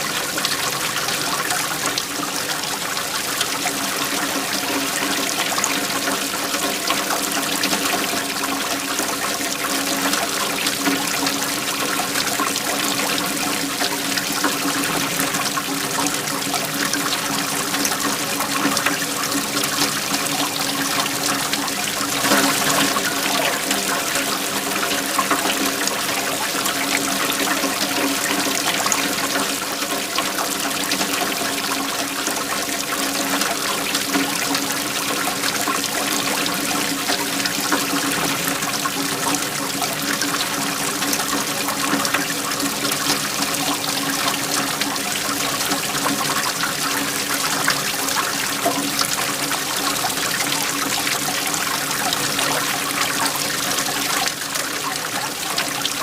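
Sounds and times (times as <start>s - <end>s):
waterfall flowing: 0.0s - 56.0s.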